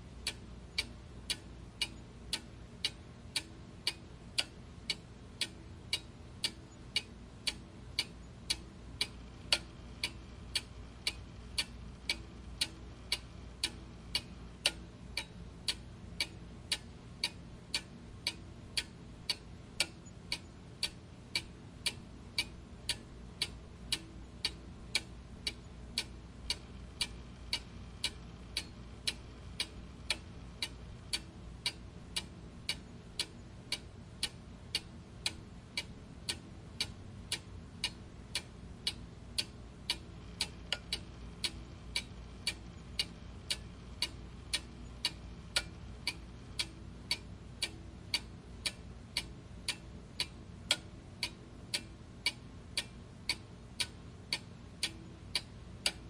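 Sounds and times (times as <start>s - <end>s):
faint low hum: 0.0s - 56.0s
clock ticking: 0.2s - 56.0s.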